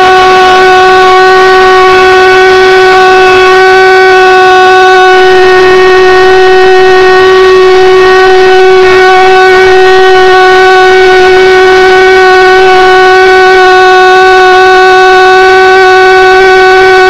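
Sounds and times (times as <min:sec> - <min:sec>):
pulse jet droning: 0:00.0 - 0:17.0.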